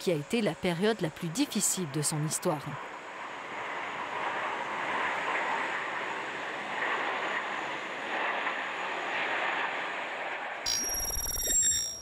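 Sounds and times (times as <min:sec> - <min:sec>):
aircraft engine roar: 0:00.0 - 0:11.0.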